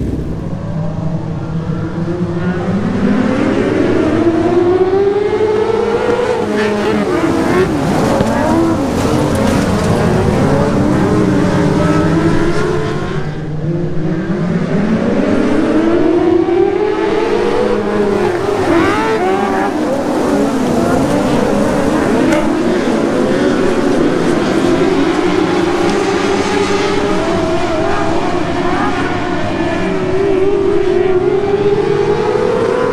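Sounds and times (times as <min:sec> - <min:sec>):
race car engines: 0:00.0 - 0:32.9.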